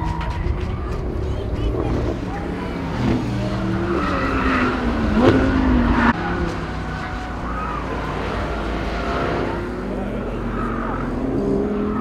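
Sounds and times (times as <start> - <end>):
sports car engine revving: 1.0 - 12.0.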